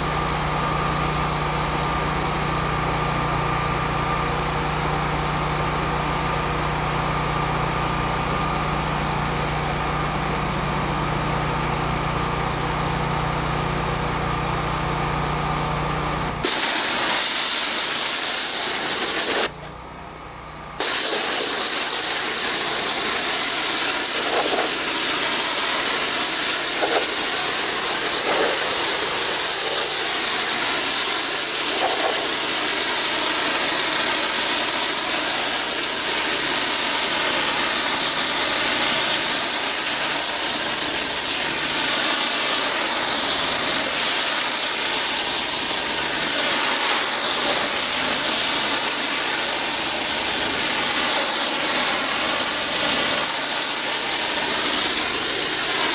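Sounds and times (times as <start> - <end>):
pressure washer spray hiss: 0.0 - 19.6, 20.8 - 55.9.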